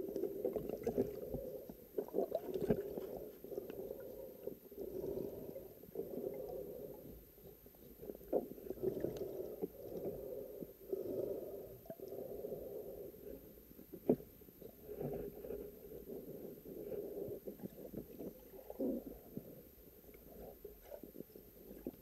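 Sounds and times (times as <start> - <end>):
underwater water gurgling: 0.0 - 22.0.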